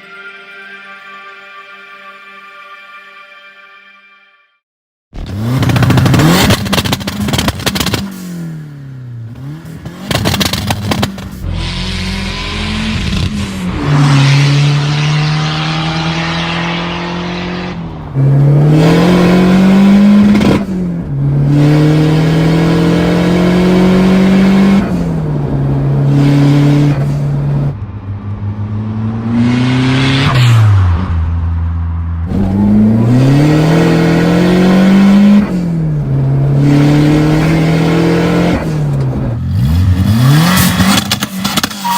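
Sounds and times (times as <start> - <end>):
turbocharged engine revving under load: 5.2 - 31.3, 32.2 - 41.8.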